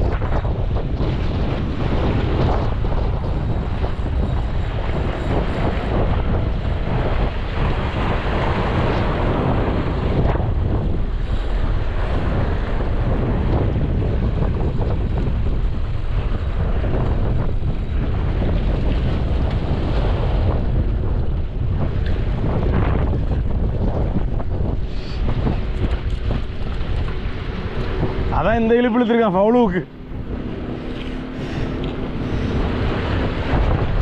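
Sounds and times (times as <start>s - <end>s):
sea surf washing: 0.0s - 34.0s
wind buffeting microphone: 0.0s - 34.0s.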